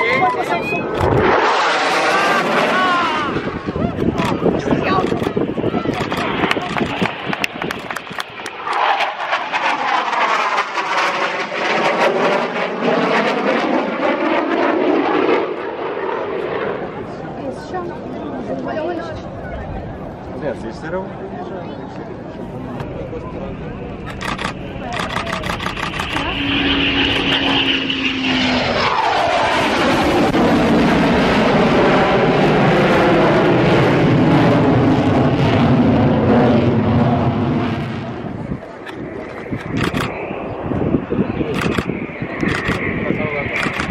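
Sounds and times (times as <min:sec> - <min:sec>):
aircraft flying past: 0:00.0 - 0:43.9.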